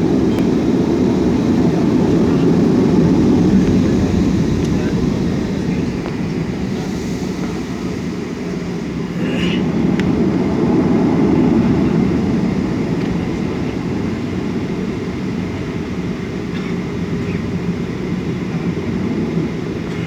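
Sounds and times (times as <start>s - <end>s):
aircraft engines rumbling in cabin: 0.0s - 20.0s.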